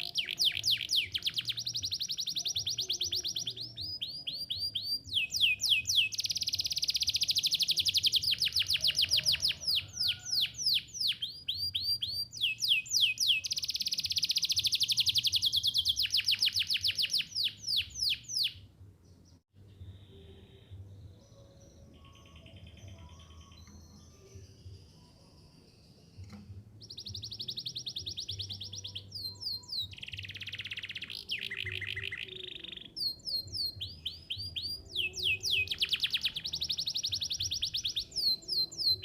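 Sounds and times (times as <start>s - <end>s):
canary singing trills: 0.0s - 18.7s, 19.9s - 25.3s, 26.7s - 39.0s.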